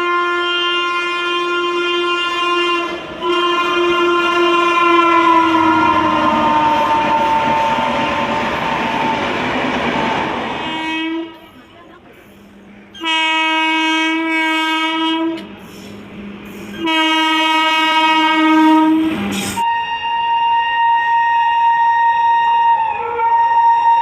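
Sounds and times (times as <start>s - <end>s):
locomotive horn blasts: 0.0s - 11.6s, 13.0s - 15.5s, 16.7s - 24.0s.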